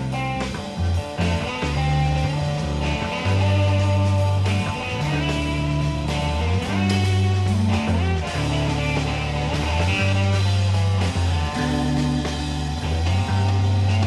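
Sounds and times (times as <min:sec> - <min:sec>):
long held bass notes: 0:00.0 - 0:14.0
psychedelic rock guitar: 0:00.0 - 0:14.0.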